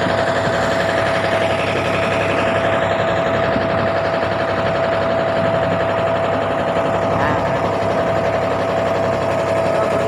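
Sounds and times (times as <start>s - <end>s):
boat engine droning with whine: 0.0s - 10.0s.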